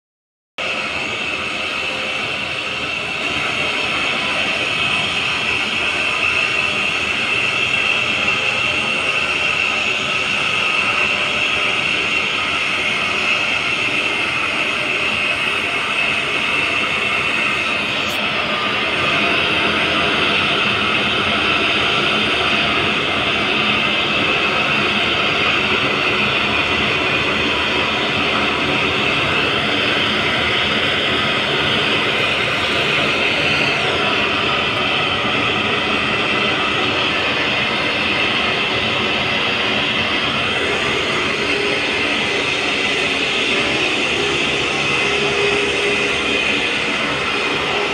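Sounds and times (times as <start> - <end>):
steady machinery noise: 0.6 - 47.9.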